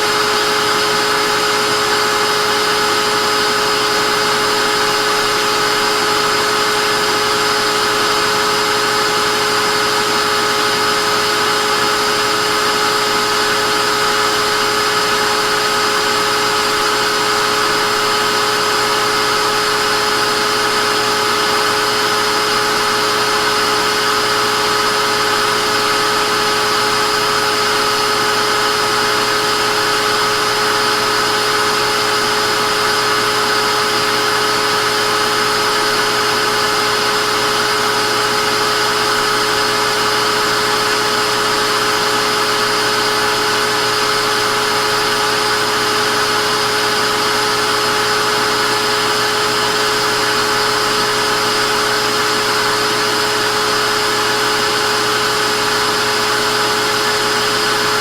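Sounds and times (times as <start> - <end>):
vacuum cleaner motor running: 0.0 - 58.0.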